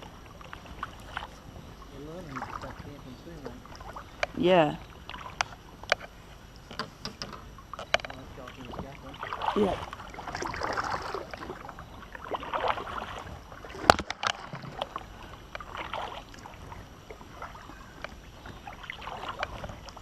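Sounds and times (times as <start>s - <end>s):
water sloshing against kayak: 0.0s - 20.0s.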